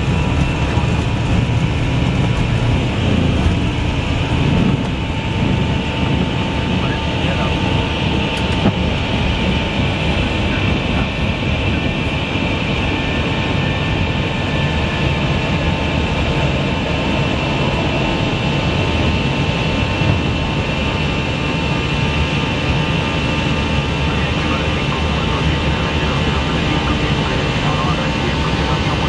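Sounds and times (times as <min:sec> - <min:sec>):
jet engine and rushing air: 0:00.0 - 0:29.0.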